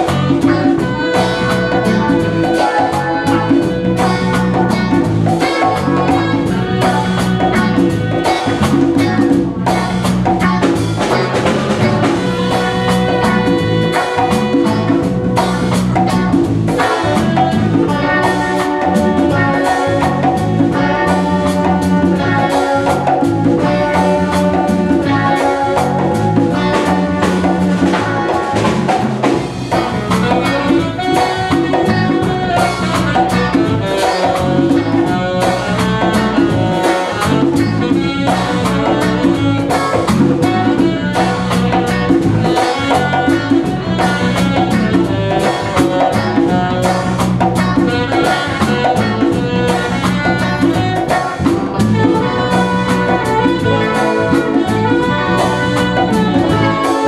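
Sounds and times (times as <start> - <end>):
small jazz band playing: 0.0 - 57.0.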